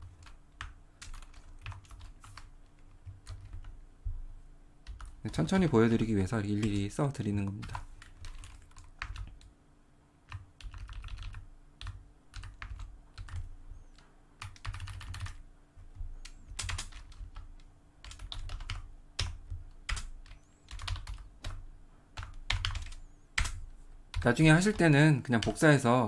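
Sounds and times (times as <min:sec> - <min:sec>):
typing on computer keyboard: 0:00.0 - 0:03.8, 0:04.8 - 0:09.5, 0:10.3 - 0:21.6, 0:22.2 - 0:25.6.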